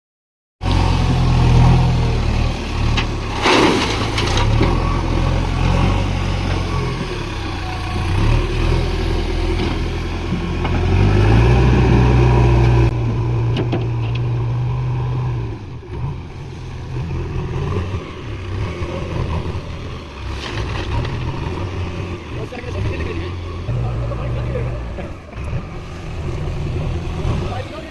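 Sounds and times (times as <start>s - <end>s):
diesel engine working under load: 0.6s - 27.9s.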